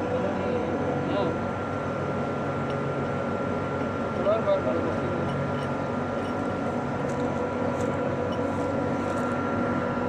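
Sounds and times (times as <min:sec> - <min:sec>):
chiller machinery humming: 0:00.0 - 0:10.0
high steady whine: 0:00.0 - 0:10.0.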